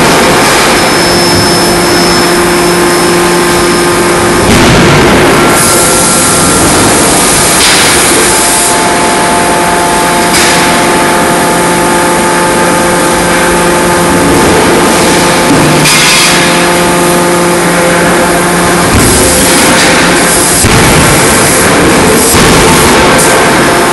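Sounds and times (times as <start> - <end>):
industrial machinery roar: 0.0 - 23.9
multi-tone machinery hum: 0.0 - 23.9.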